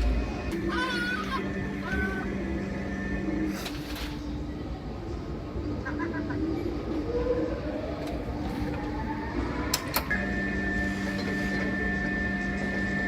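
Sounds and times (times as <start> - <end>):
mechanical hum over rumble: 0.0 - 13.0.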